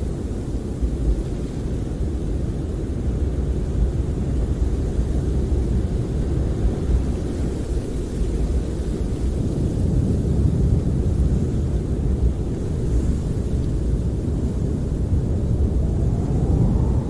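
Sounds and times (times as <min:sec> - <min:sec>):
snowstorm wind rumble: 0:00.0 - 0:17.0.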